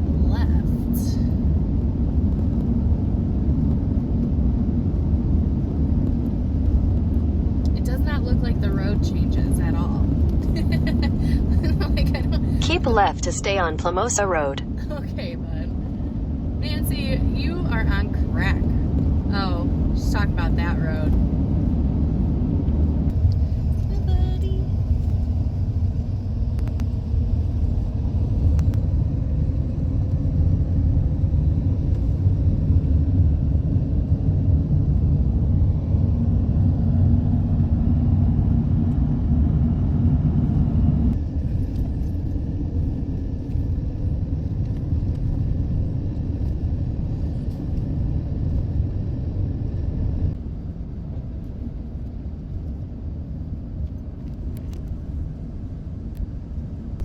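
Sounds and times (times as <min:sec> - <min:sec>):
engine and road noise rumble: 0:00.0 - 0:57.0.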